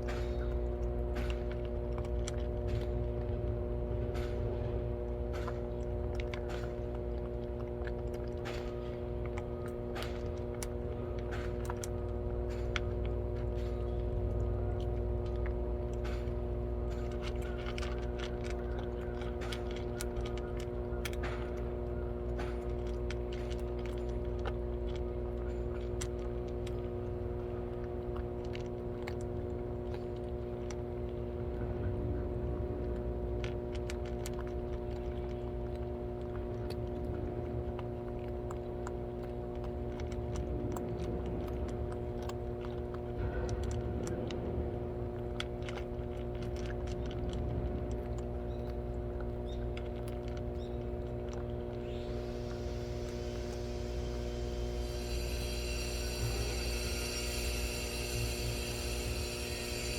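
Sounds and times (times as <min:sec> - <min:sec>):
cats crunching food: 0:00.0 - 0:59.9
low machine hum: 0:00.0 - 0:59.9.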